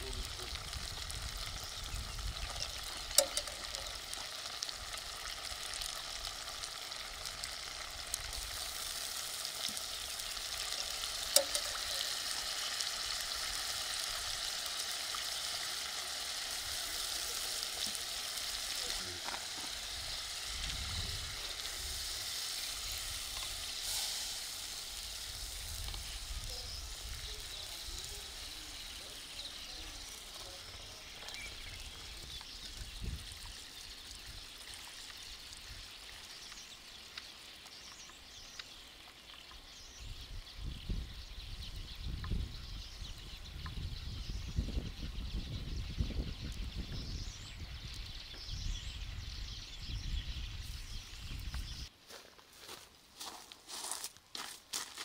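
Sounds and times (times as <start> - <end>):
sauce sizzling in a pan: 0.0 - 45.4.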